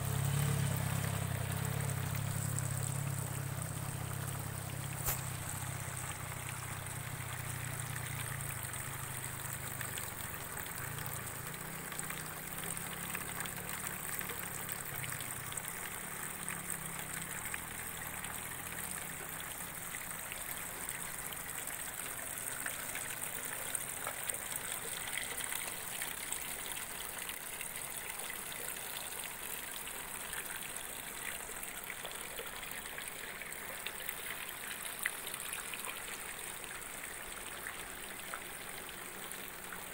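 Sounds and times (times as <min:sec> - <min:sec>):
water trickling and rushing: 0:00.0 - 0:39.9.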